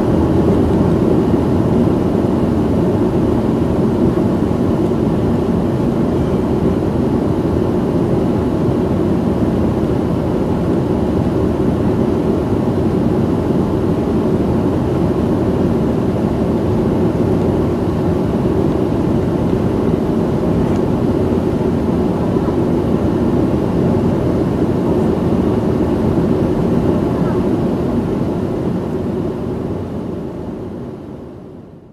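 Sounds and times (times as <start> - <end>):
jet engine cabin rumble: 0.0 - 31.9.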